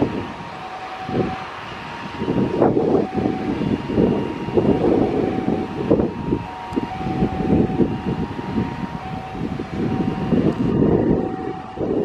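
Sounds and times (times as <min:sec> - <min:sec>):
jet engines whining: 0:00.0 - 0:12.0
wind buffeting microphone: 0:00.0 - 0:12.0.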